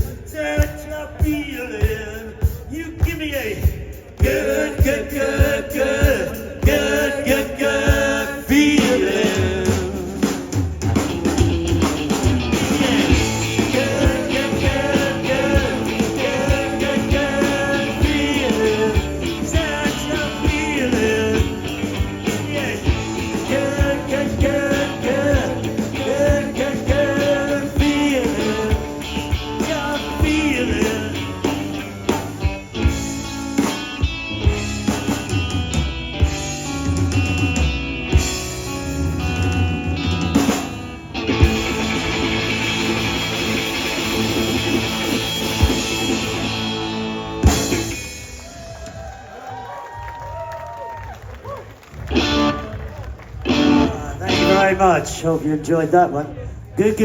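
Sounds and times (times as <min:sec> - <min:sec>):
live blues-rock band playing: 0:05.2 - 0:49.0, 0:51.8 - 0:55.4.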